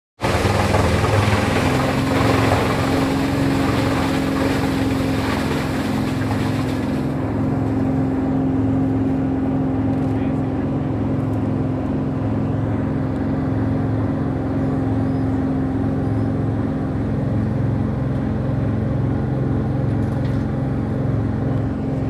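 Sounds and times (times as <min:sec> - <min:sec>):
wood chipper engine drone: 0:00.2 - 0:22.0.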